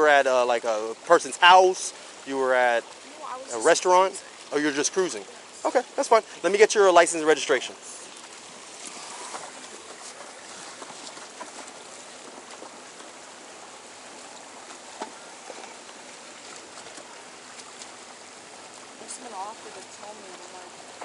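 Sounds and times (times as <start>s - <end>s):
water lapping against hulls: 0.0s - 21.0s.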